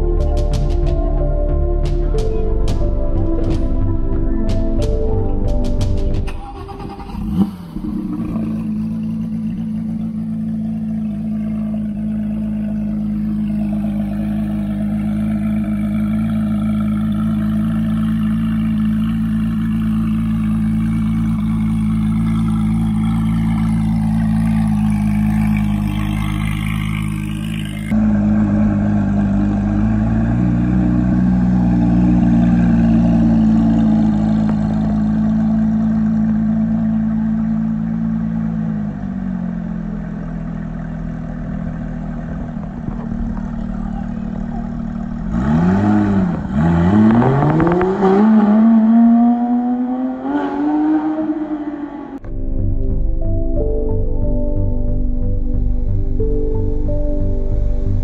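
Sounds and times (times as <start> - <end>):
car engine idling: 0.0 - 49.2.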